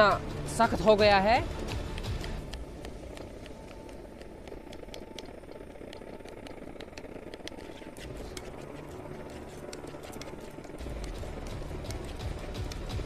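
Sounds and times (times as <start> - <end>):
gas burner roar: 0.0 - 13.0.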